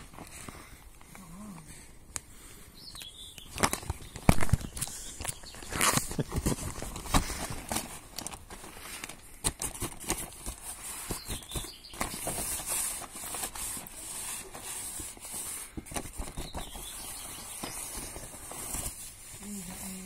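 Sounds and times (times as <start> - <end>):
plastic sheeting crinkling: 0.0 - 1.7, 3.5 - 20.0.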